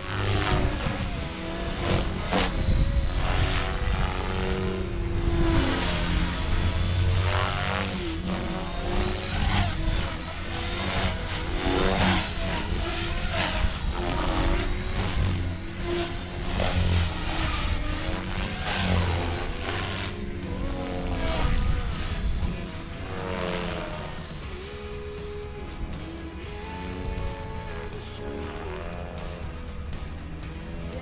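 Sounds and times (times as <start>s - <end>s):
helicopter rotor noise: 0.0s - 31.0s
rc helicopter whine: 0.0s - 31.0s.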